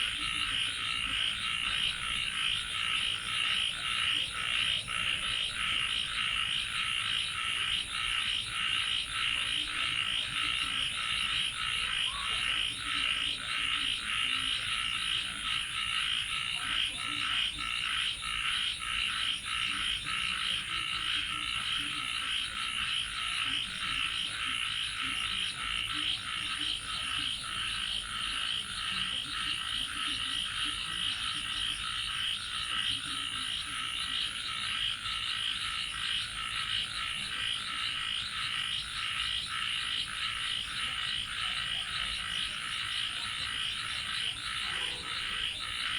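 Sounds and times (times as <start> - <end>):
chorus of frogs calling: 0.0 - 45.9.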